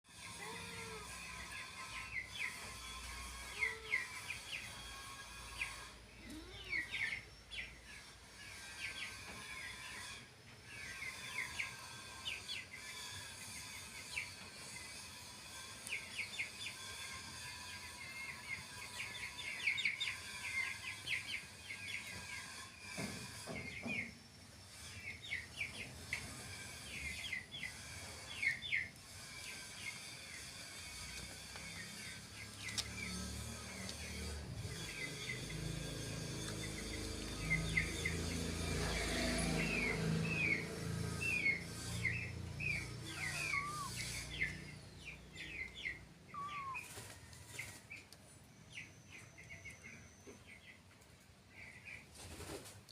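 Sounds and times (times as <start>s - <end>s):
small birds chirping: 0.1s - 52.9s.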